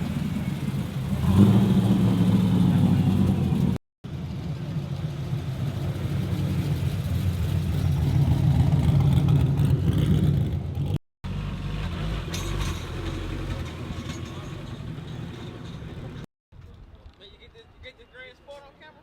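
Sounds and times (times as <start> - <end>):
car engine rumbling: 0.0 - 16.3.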